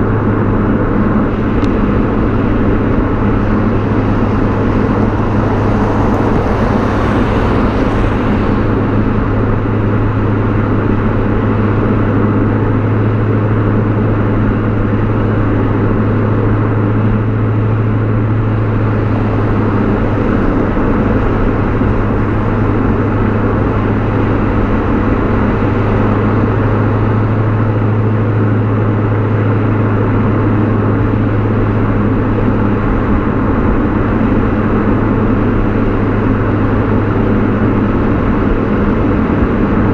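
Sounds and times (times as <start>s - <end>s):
car exhaust droning: 0.0s - 39.9s
road noise: 0.0s - 39.9s.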